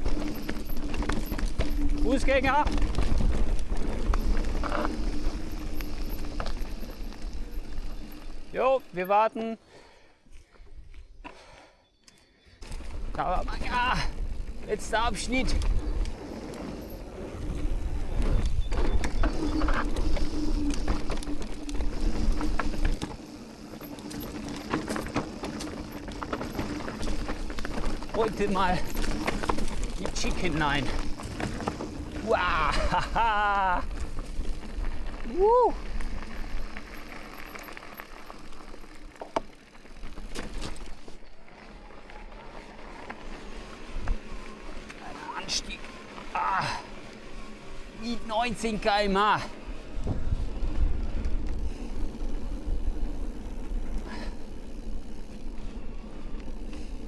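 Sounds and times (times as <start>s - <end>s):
tyre and wind noise: 0.0s - 9.3s, 12.5s - 57.0s
bike clicks and rattles: 0.0s - 9.4s, 10.4s - 57.0s
bike rumbling on trail: 0.0s - 57.0s.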